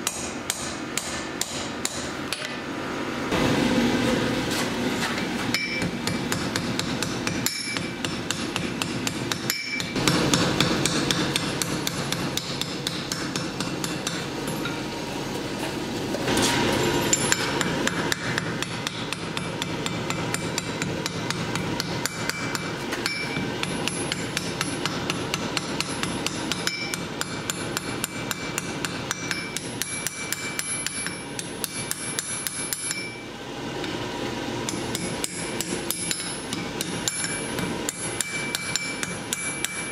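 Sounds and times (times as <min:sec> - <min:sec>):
hammer striking steel on anvil: 0:00.0 - 0:02.6, 0:05.2 - 0:14.9, 0:16.3 - 0:34.0, 0:34.6 - 0:39.9.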